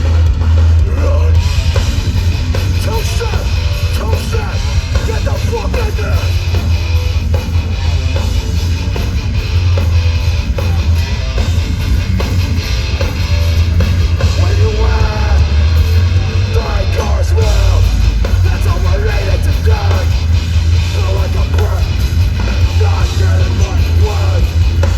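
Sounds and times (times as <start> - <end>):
hardcore band playing live: 0.0 - 24.9.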